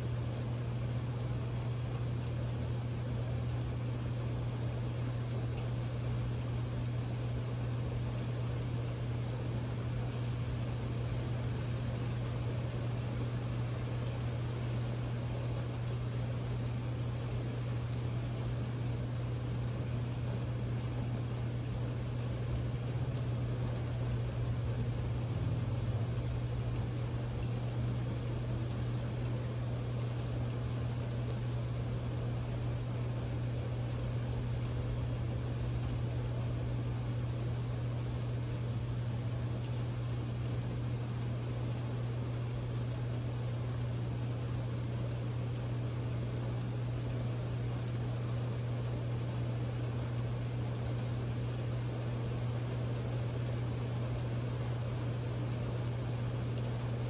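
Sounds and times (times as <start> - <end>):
constant low hum: 0.0 - 57.0
steady rain falling: 0.0 - 57.0.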